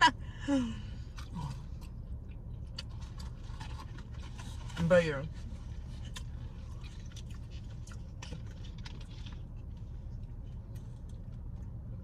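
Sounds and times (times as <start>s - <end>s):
car engine idling hum: 0.0s - 12.0s
chewing and mouth smacking: 1.0s - 12.0s.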